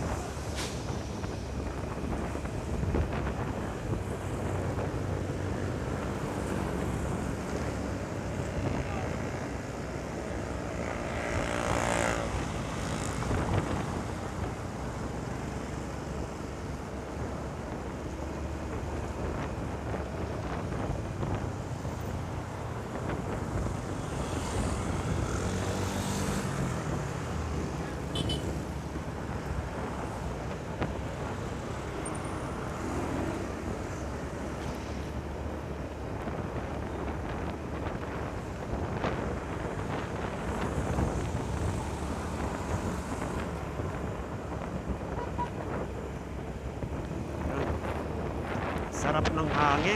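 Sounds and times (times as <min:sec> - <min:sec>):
wind buffeting microphone: 0:00.0 - 0:10.2, 0:11.3 - 0:32.0, 0:32.8 - 0:49.9
passing vehicle engines: 0:00.0 - 0:49.9
road noise: 0:00.0 - 0:49.9.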